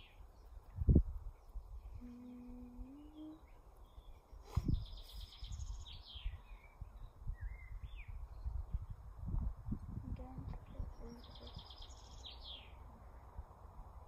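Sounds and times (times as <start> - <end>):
birds chirping: 0.0 - 8.9, 10.6 - 13.4.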